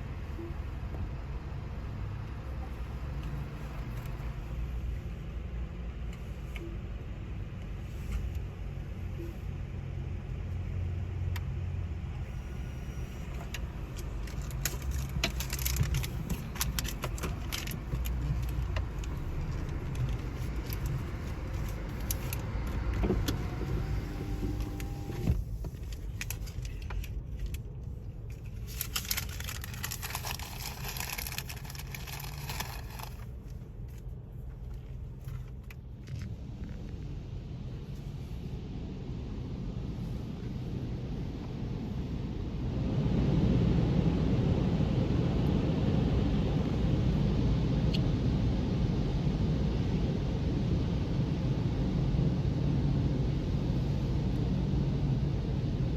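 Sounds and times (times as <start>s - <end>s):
low rumble of car wash: 0.0s - 55.9s.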